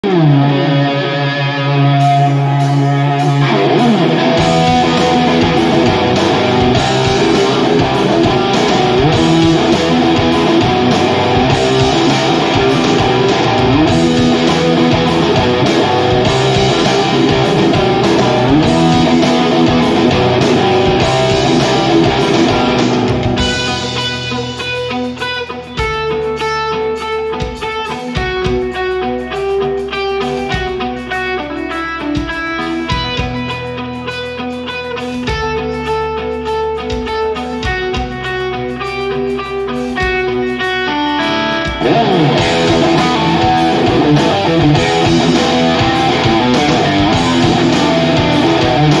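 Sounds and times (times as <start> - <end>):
live instrumental rock: 0.0 - 49.0.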